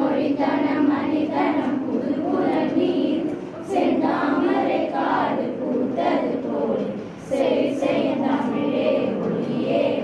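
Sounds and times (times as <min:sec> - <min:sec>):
girls choir singing: 0:00.0 - 0:10.0.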